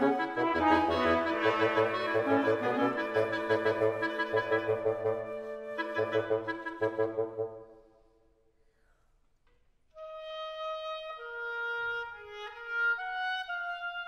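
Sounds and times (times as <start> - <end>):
woodwind quintet playing: 0.0 - 7.9, 10.0 - 14.0.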